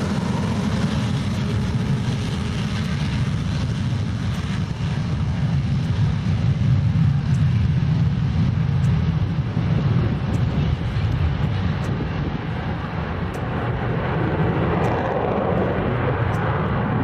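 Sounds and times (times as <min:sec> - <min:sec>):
jet engine rumbling: 0:00.0 - 0:17.0.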